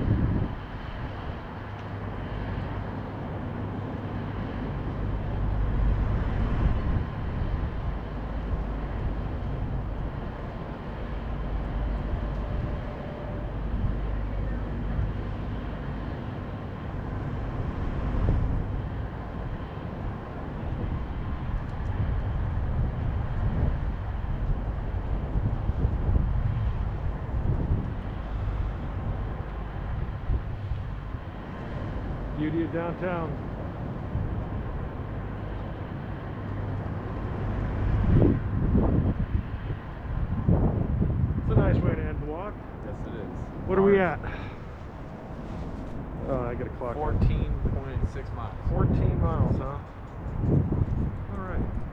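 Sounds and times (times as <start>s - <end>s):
city noise rumble: 0.0s - 51.9s.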